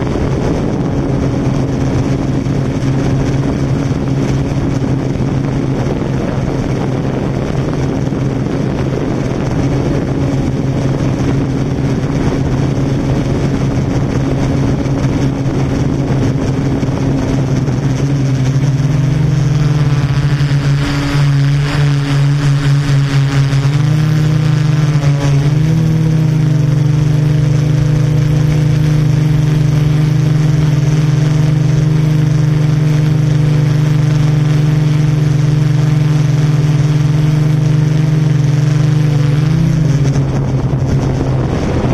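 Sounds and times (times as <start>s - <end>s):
quadcopter motors humming: 0.0s - 41.9s.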